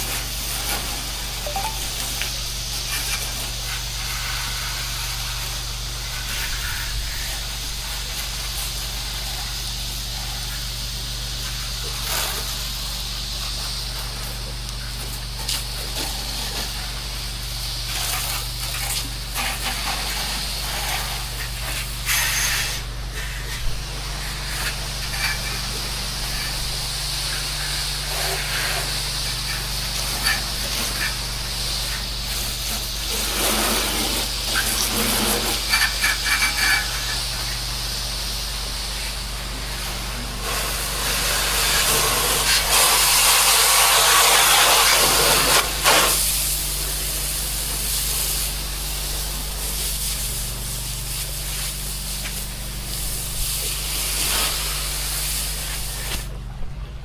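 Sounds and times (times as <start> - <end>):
pressure washer spraying water: 0.0 - 56.3.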